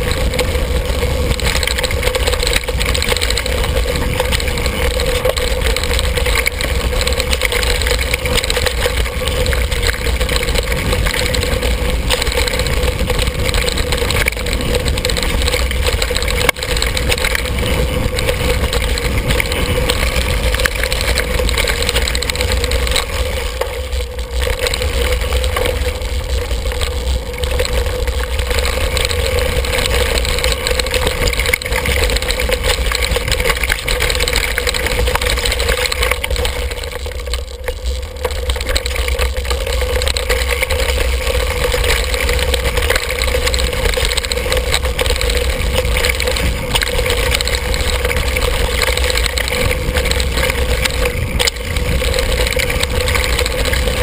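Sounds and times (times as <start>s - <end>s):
bike rattle and tyre rumble: 0.0s - 54.0s.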